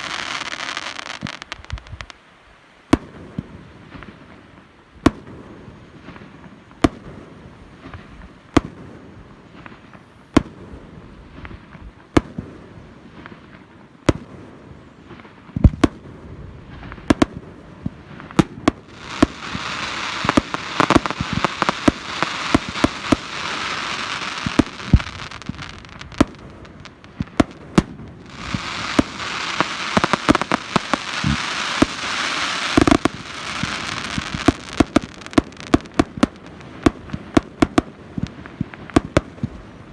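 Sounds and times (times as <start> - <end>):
firework bangs: 0.0 - 2.2, 2.9 - 39.9
dense firework hiss: 0.0 - 39.9.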